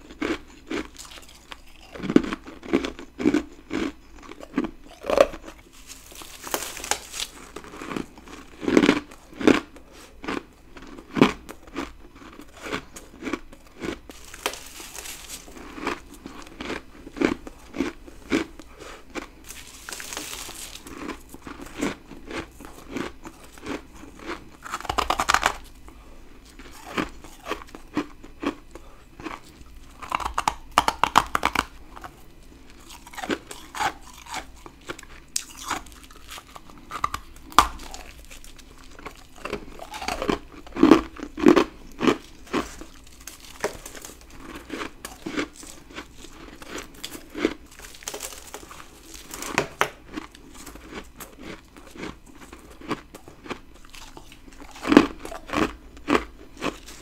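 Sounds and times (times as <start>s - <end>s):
crunchy ice chewing: 0.0s - 57.0s.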